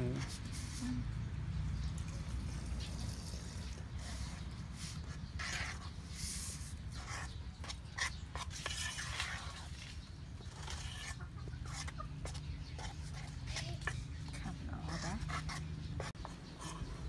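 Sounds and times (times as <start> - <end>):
spoon scraping batter in bowl: 2.0 - 17.0.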